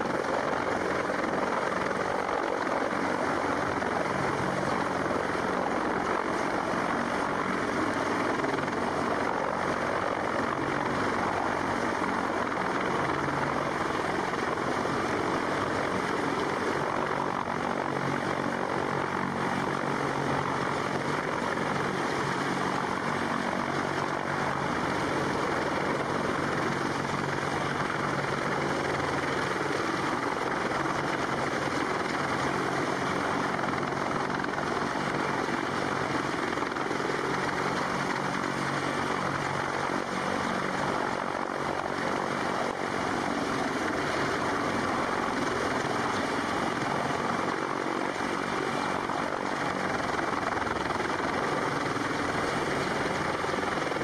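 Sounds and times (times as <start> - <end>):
helicopter rotor and turbine din: 0.0 - 54.0.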